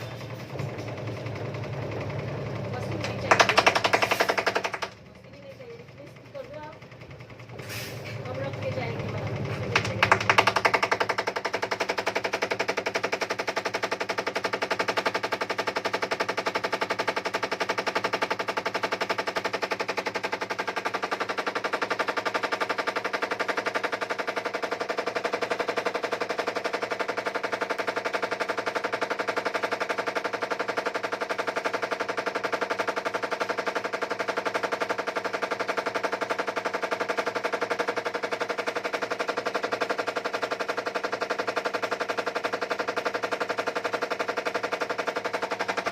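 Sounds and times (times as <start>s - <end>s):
washing machine motor hum: 0.0s - 45.9s
washing machine rattling knock: 2.8s - 5.0s, 9.7s - 45.9s.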